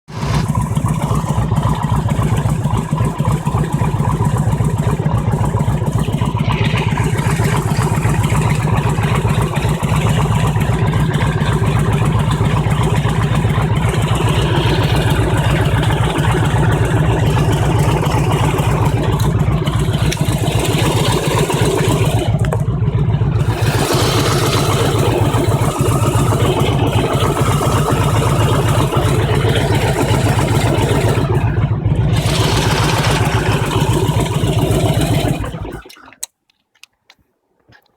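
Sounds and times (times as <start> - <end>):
engine knock: 0.0 - 35.9
motorcycle engine idling: 0.1 - 35.8.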